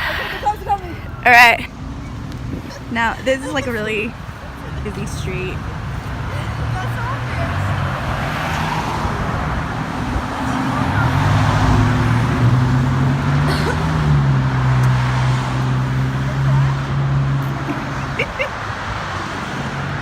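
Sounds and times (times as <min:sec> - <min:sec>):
busy street traffic: 0:00.0 - 0:20.0
vehicle engine humming: 0:00.0 - 0:20.0.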